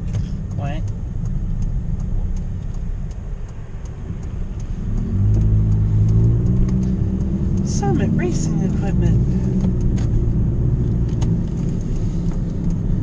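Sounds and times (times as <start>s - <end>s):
car engine and road rumble: 0.0s - 13.0s
faint ticking: 0.0s - 13.0s.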